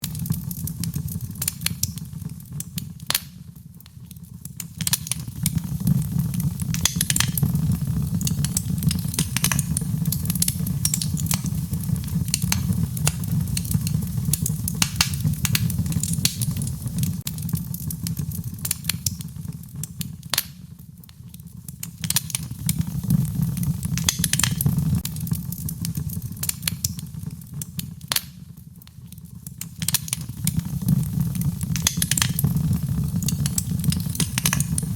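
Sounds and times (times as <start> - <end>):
low rumble of flames: 0.0 - 34.9
wood fire crackling and popping: 0.0 - 34.9.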